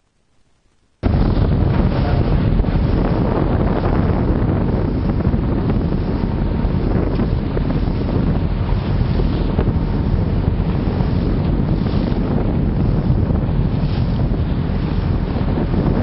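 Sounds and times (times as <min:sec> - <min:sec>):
sea water rushing past boat: 0:01.0 - 0:16.0
wind buffeting microphone: 0:01.0 - 0:16.0.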